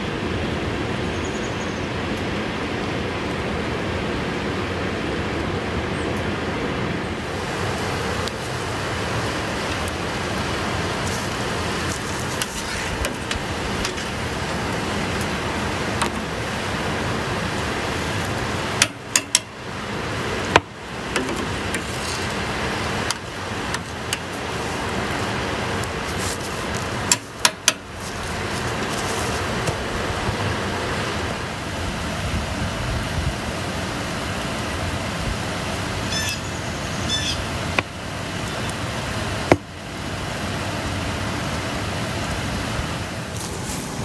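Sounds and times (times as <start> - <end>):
sap boiling and bubbling: 4.8 - 36.3, 37.0 - 44.0.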